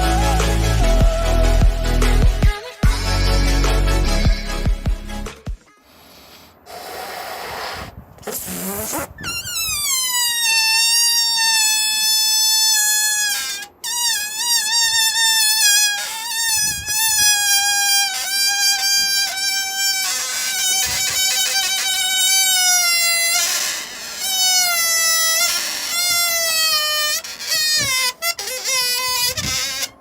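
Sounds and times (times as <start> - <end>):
deflating balloon squealing: 5.7 - 30.0
air hissing: 5.9 - 29.9.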